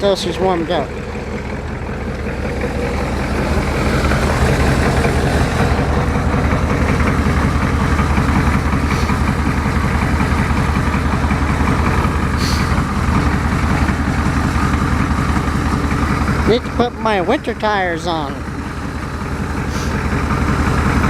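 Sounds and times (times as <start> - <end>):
diesel engine idling rough: 0.0 - 21.0.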